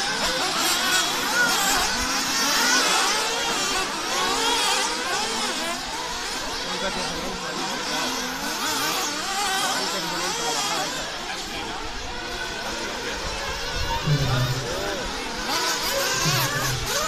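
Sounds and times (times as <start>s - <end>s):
rc car engines revving: 0.0s - 17.0s.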